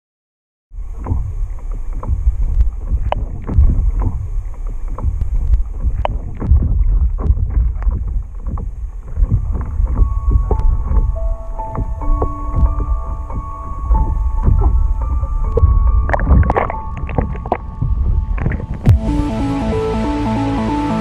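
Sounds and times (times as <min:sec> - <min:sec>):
low rumble: 0:00.8 - 0:21.0
music with held tones: 0:00.8 - 0:21.0
water sloshing and splashing: 0:01.0 - 0:18.9.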